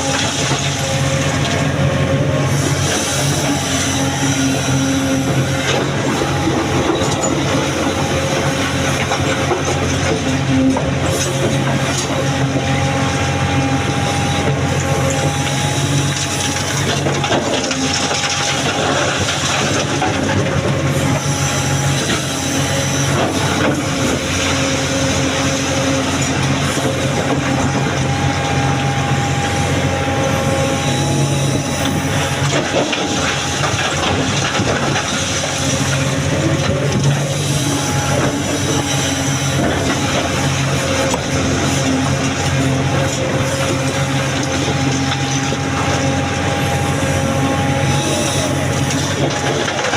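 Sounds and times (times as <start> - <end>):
excavator diesel engine and hydraulics: 0.0 - 49.9.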